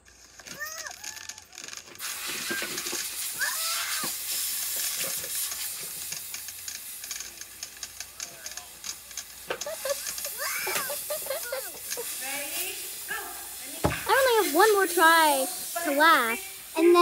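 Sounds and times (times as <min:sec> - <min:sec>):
steady hissing and crackling: 0:00.0 - 0:17.0.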